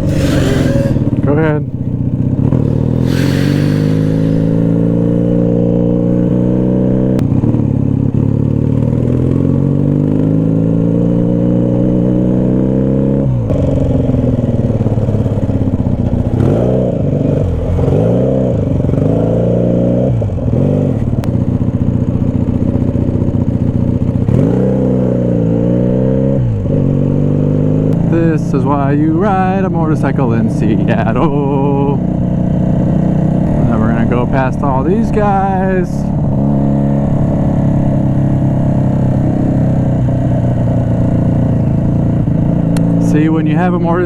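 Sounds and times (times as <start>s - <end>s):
motorcycle engine revving: 0.0s - 43.7s.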